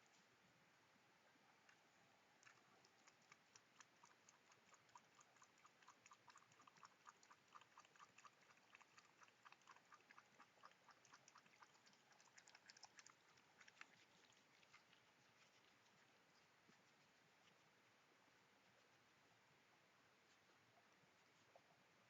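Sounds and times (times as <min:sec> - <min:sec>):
possum chewing: 0:01.5 - 0:19.5.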